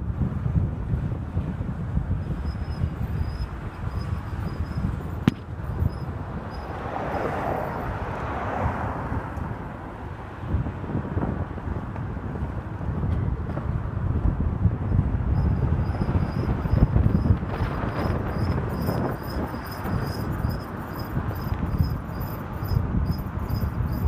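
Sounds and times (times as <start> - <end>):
road and wind rumble: 0.0 - 24.0.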